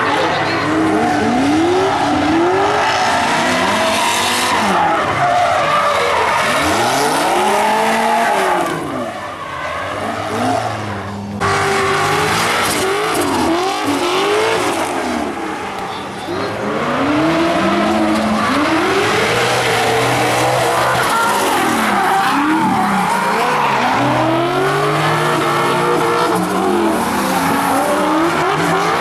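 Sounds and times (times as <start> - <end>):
car engines revving hard: 0.0 - 29.0
tyres squealing and skidding: 0.0 - 29.0.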